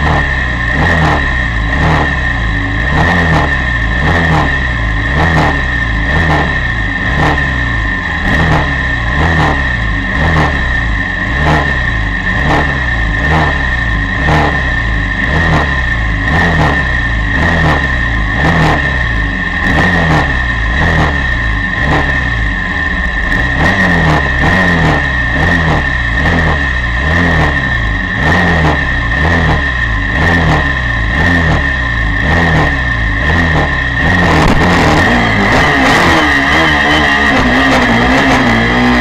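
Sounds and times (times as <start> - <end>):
motorcycle engine revving: 0.0 - 39.0
steady high whine: 0.0 - 39.0.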